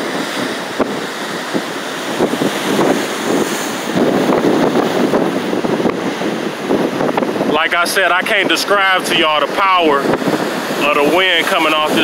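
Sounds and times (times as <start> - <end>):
heavy surf breaking: 0.0 - 12.0
wind buffeting microphone: 0.0 - 12.0.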